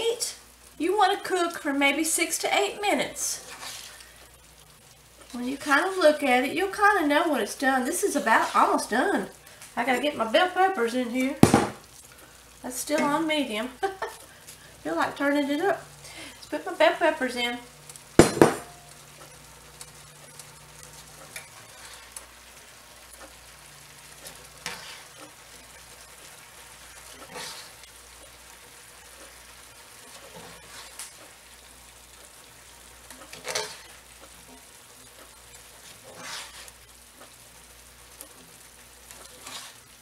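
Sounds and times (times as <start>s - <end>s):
food sizzling in a skillet: 0.0s - 40.0s
food stirred in pan: 0.4s - 40.0s.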